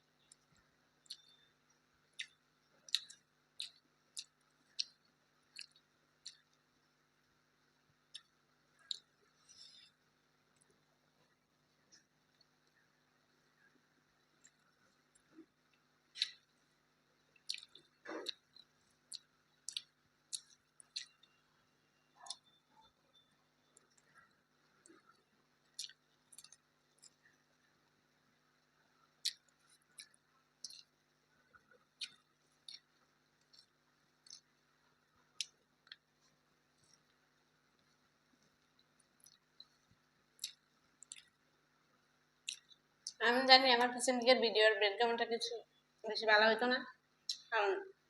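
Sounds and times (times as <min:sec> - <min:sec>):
faint low hum: 0:00.0 - 0:48.0
person chewing with mouth open: 0:00.2 - 0:06.9, 0:08.0 - 0:27.8, 0:28.5 - 0:41.4, 0:42.4 - 0:43.2.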